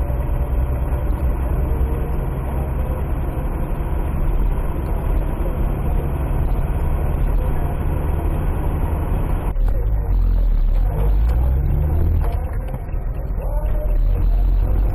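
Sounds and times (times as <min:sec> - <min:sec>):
car cabin engine and tyre rumble: 0:00.0 - 0:14.9.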